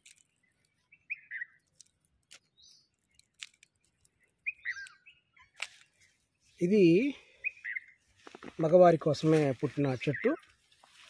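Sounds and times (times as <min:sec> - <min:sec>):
birds chirping: 0:00.2 - 0:11.0.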